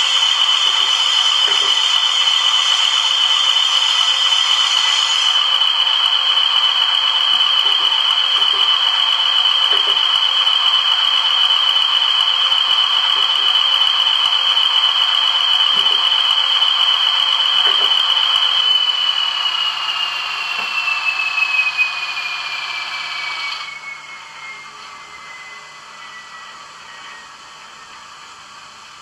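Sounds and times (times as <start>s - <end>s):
diesel engine through small speaker: 0.0s - 29.0s
high turbocharger whine: 0.0s - 29.0s.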